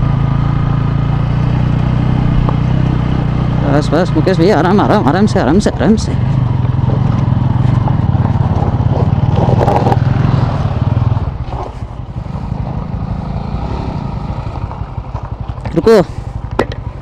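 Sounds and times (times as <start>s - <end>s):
motorcycle engine pulling: 0.0s - 17.0s.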